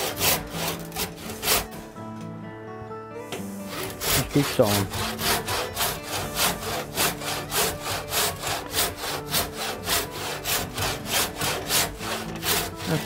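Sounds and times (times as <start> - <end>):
hand saw cutting wood: 0.0 - 1.9, 3.3 - 13.0.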